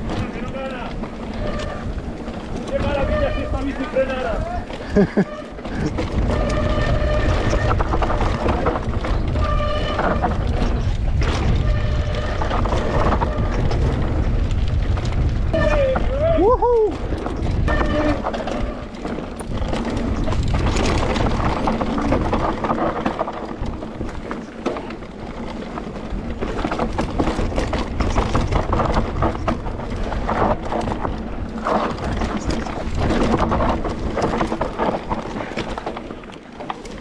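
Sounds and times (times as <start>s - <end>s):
wind rumble on microphone: 0.0s - 36.0s
bike clattering over bumps: 0.0s - 37.0s
bike tyres on dirt and stones: 0.0s - 37.0s.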